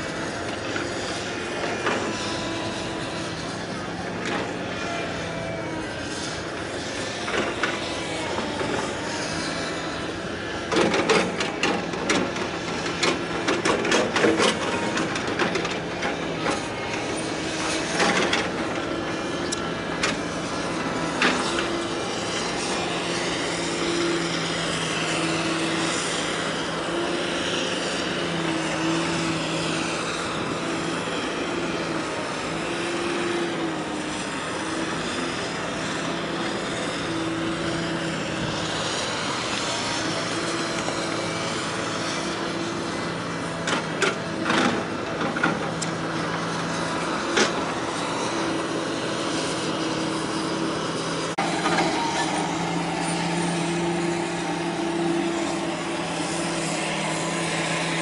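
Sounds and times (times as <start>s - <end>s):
engine drone: 0.0s - 58.0s.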